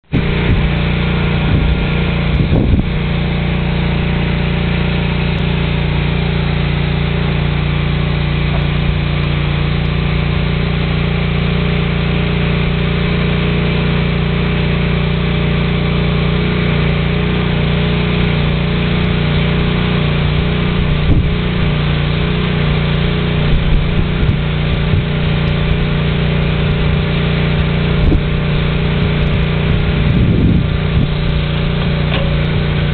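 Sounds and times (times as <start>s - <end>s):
motor running with low drone: 0.0s - 32.9s.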